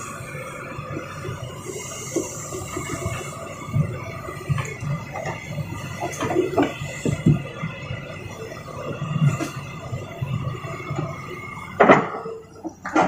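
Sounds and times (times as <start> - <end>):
excavator engine hum: 0.0 - 13.0.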